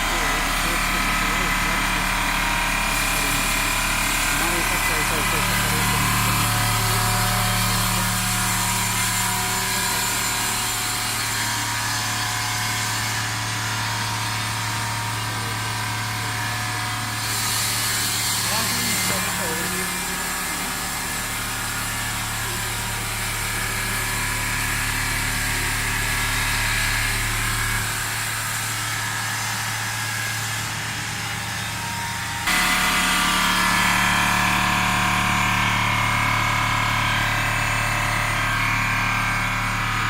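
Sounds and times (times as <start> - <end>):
blade sawing foam: 0.0 - 40.0
motor hum: 0.0 - 40.0.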